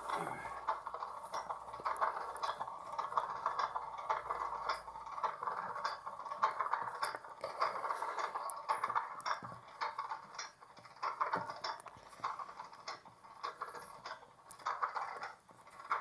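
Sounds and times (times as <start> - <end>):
small rattling clicks: 0.6 - 16.0.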